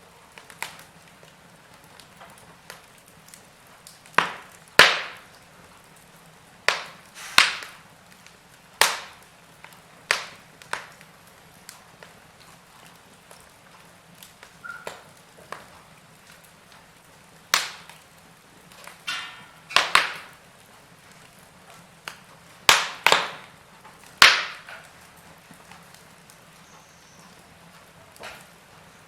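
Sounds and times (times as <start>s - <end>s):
faint steady hiss: 0.0s - 29.0s
wood fire crackling: 0.0s - 29.0s.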